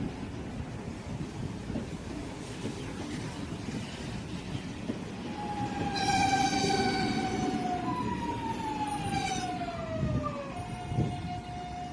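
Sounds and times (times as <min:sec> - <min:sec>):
wheels rumbling on rails: 0:00.0 - 0:11.9.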